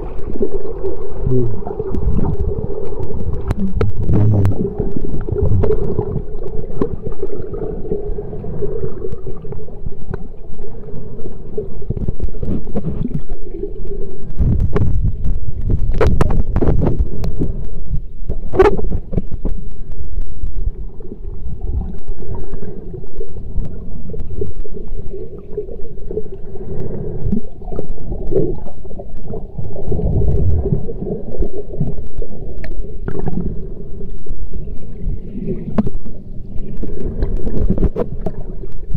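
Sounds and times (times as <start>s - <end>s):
steady hum: 0.0s - 38.9s
underwater water rumbling: 0.0s - 38.9s.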